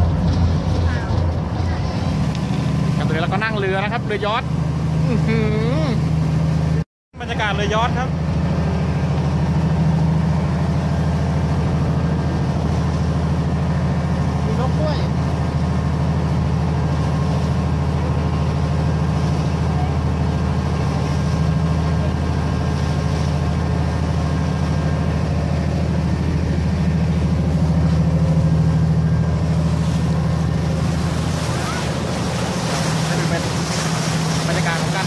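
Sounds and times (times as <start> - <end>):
ferry engine droning: 0.0 - 35.0
water noise: 0.0 - 35.0.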